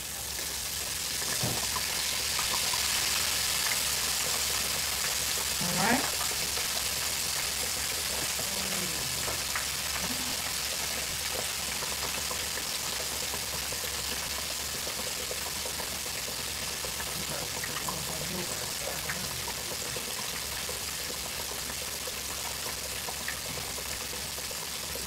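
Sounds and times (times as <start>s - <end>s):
oil bubbling and sizzling: 0.0s - 25.0s.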